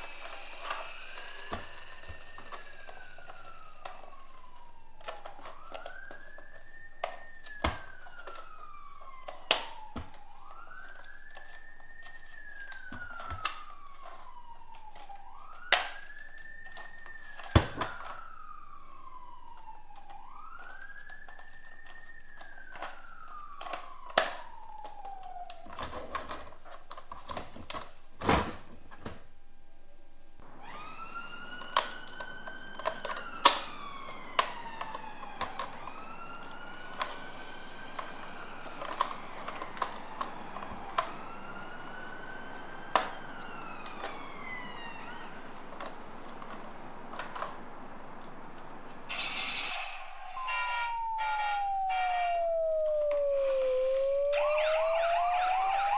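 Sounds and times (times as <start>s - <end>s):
toy electronic siren wailing: 0.0s - 27.6s, 30.4s - 55.9s.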